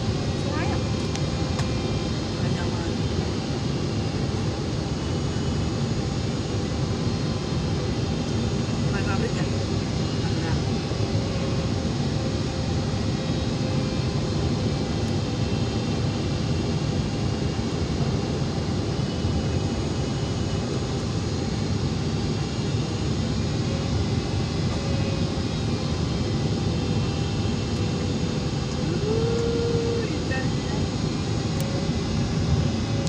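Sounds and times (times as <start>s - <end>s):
jet cabin engine and airflow noise: 0.0s - 33.0s.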